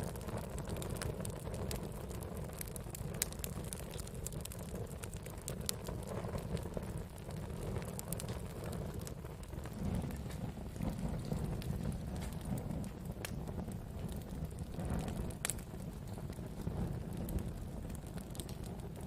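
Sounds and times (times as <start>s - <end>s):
fire crackles and pops: 0.0s - 19.0s
wood fire low rumble: 0.0s - 19.0s.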